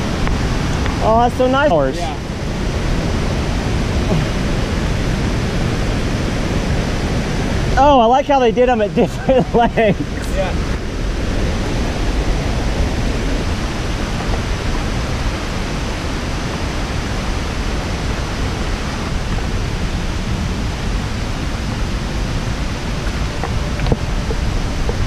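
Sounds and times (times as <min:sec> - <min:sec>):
whitewater river rushing: 0:00.0 - 0:25.0.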